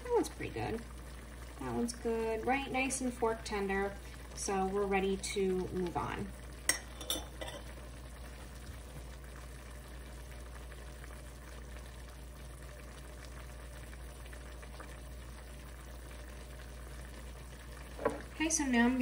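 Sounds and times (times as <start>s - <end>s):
stock simmering and bubbling: 0.0s - 19.0s.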